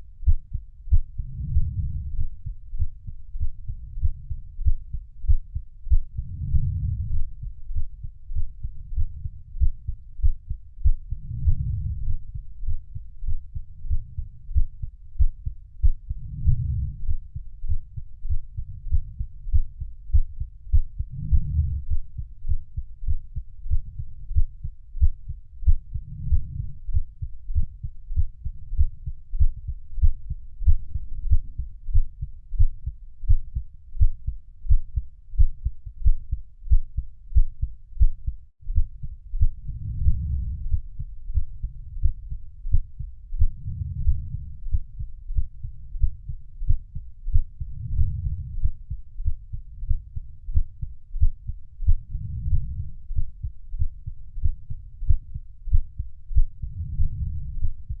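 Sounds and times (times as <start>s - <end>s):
heartbeat thumping: 0.2s - 58.0s.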